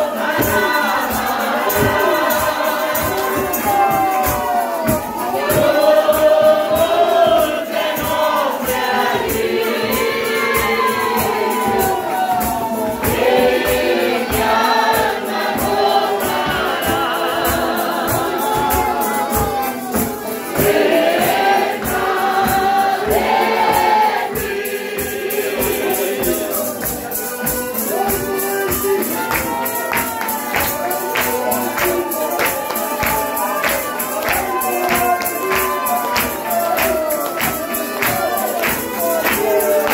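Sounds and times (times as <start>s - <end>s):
band playing: 0.0s - 39.9s
congregation singing a hymn: 0.0s - 39.9s
tambourine beat: 0.0s - 39.9s.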